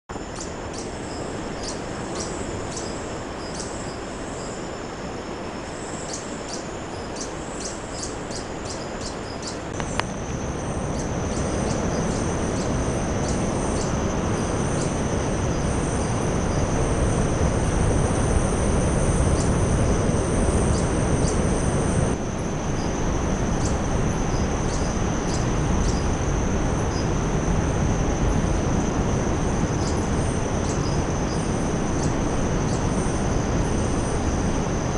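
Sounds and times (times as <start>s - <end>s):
constant rushing noise: 0.1s - 34.9s
high-pitched insect whine: 0.1s - 34.9s
insects chirping: 0.1s - 34.9s.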